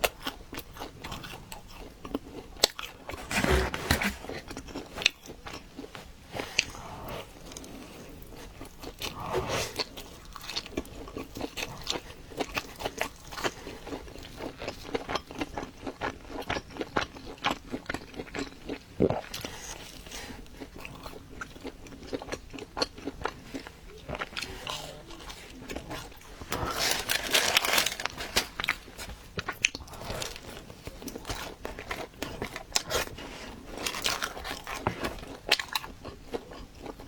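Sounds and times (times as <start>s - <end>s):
person chewing crunchy pizza: 0.0s - 37.0s.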